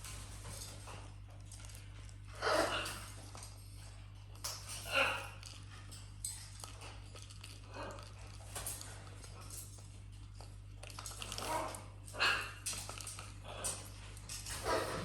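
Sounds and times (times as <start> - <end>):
parrot chewing a toy: 0.1 - 15.0.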